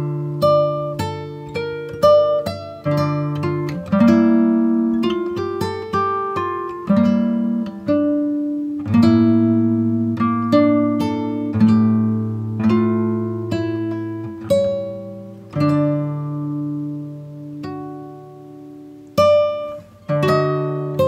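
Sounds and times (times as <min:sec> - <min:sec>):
guitar plucking notes: 0:00.0 - 0:21.0.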